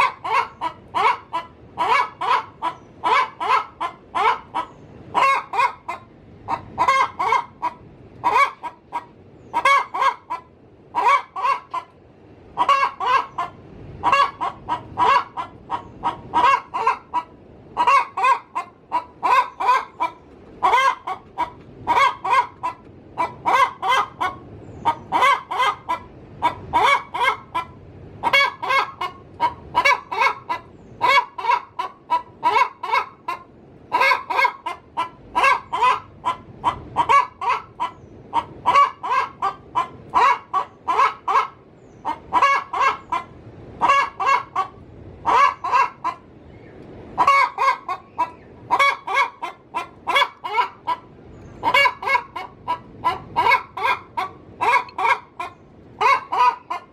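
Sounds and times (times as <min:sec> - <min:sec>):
hen cackling: 0:00.0 - 0:56.9.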